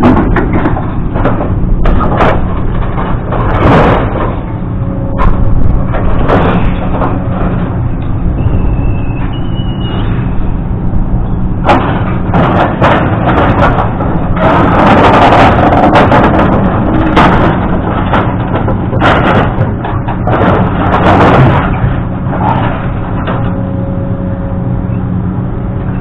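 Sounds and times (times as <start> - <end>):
scrap metal banging and clanking: 0.0 - 10.4, 11.6 - 24.0
engine running: 0.0 - 26.0.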